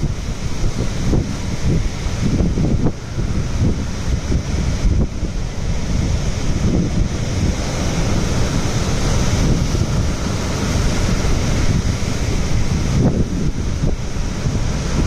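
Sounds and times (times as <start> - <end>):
sea surf breaking on rocks: 0.0 - 15.0
wind buffeting microphone: 0.0 - 15.0.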